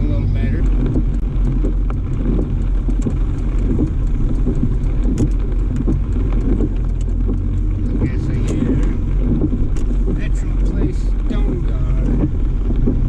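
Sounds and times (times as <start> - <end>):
car road and engine rumble: 0.0 - 13.0
rain ticking on car: 0.0 - 13.0.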